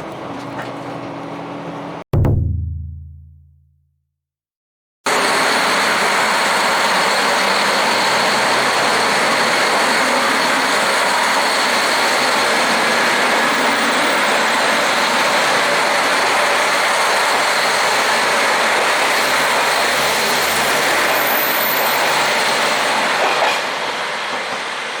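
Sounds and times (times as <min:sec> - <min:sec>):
train wheel and rail noise: 0:00.0 - 0:02.0, 0:05.1 - 0:25.0.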